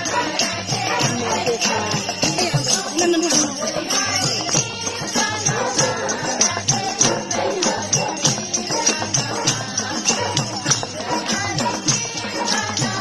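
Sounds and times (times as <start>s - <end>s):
drum beating steady rhythm: 0.0s - 13.0s
group singing: 0.0s - 13.0s
harmonium: 0.0s - 13.0s
jingling percussion: 0.0s - 13.0s.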